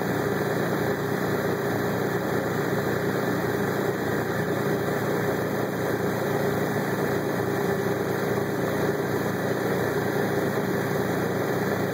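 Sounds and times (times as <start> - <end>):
engine humming steadily: 0.0 - 11.9.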